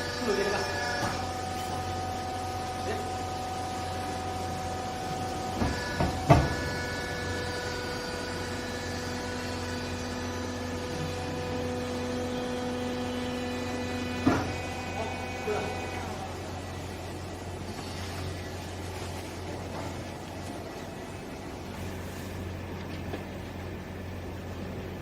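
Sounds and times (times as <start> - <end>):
baler motor and pump humming: 0.0 - 25.0.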